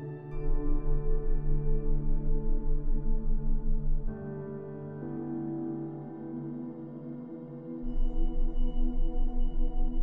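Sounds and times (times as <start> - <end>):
ambient meditation music: 0.0 - 10.0.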